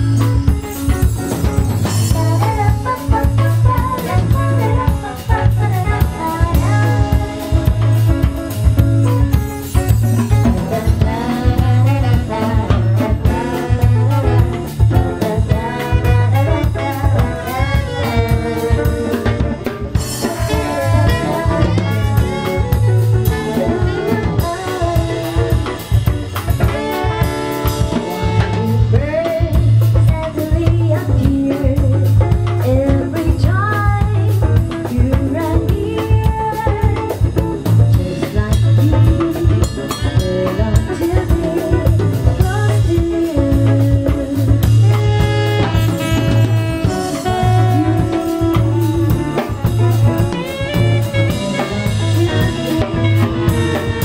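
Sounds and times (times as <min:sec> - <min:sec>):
drum kit: 0:00.0 - 0:54.0
electric guitars: 0:00.0 - 0:54.0
woman singing into microphone: 0:01.9 - 0:08.2, 0:10.4 - 0:25.9, 0:28.0 - 0:45.8, 0:46.8 - 0:51.0, 0:51.6 - 0:54.0.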